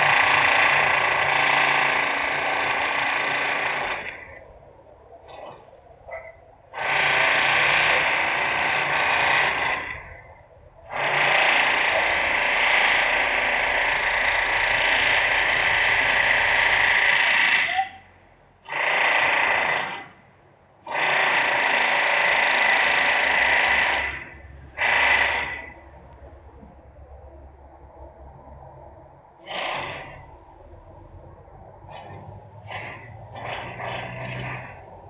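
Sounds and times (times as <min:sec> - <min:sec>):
loud industrial machinery: 0:00.0 - 0:04.6, 0:06.7 - 0:17.8, 0:18.6 - 0:20.2, 0:20.8 - 0:35.0.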